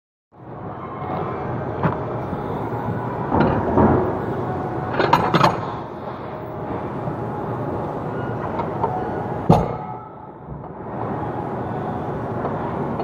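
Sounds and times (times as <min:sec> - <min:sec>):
gym room noise: 0:00.4 - 0:13.0.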